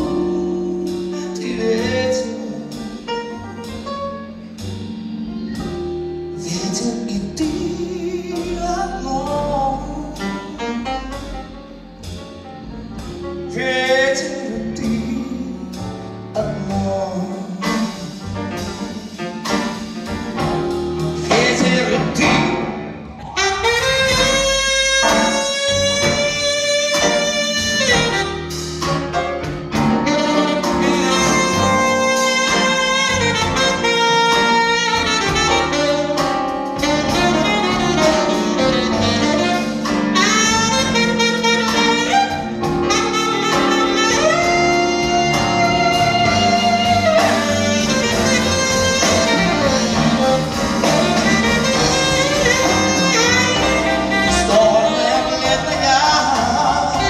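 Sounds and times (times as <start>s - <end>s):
band accompaniment: 0.0s - 57.0s
grand piano: 0.0s - 57.0s
saxophone melody: 0.0s - 57.0s.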